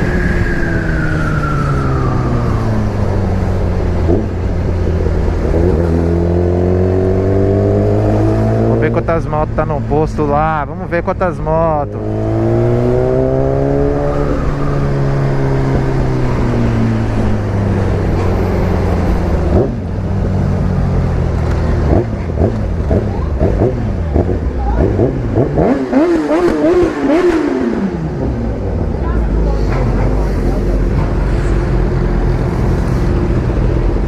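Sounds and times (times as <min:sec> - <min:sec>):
motorcycle engine: 0:00.0 - 0:10.7, 0:11.8 - 0:34.0
wind and road noise: 0:00.0 - 0:34.0.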